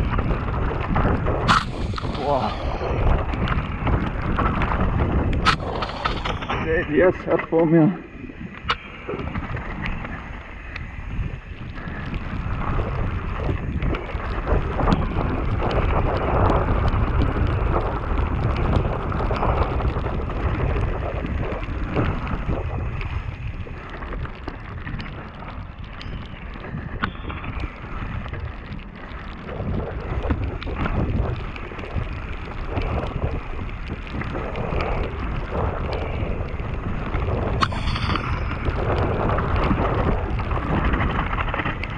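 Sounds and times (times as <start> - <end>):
bike rattling over stones: 0.0 - 41.9
wind buffeting microphone: 0.0 - 41.9.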